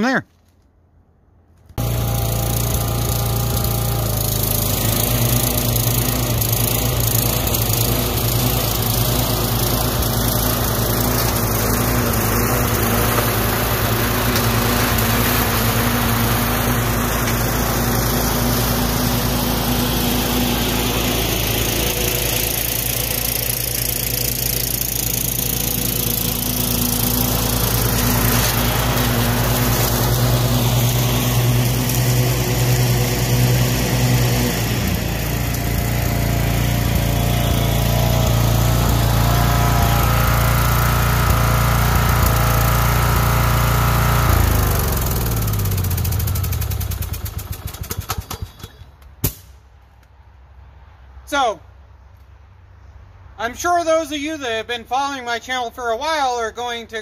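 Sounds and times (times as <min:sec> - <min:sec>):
riding mower engine running: 0:01.6 - 0:49.4.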